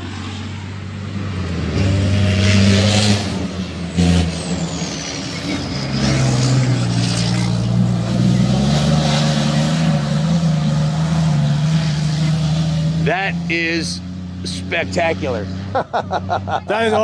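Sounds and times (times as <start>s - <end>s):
truck diesel engine passing: 0.0s - 17.0s.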